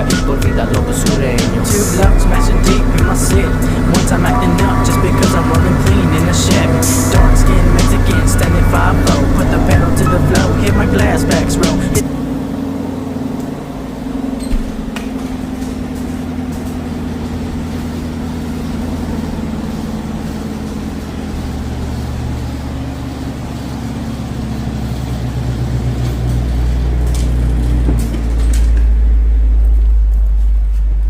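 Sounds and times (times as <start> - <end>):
car engine rumbling: 0.0 - 31.0.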